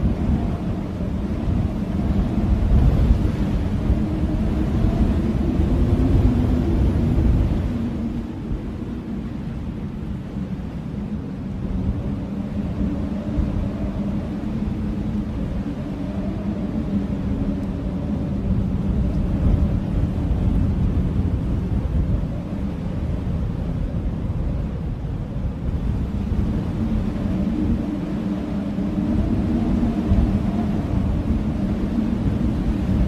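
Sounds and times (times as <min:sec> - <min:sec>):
blizzard wind howling: 0:00.0 - 0:33.0.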